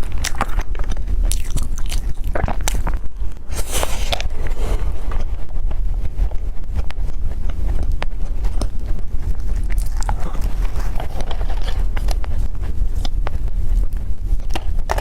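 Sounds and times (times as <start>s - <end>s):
chewing: 0.0s - 15.0s
steady low rumble: 0.0s - 15.0s.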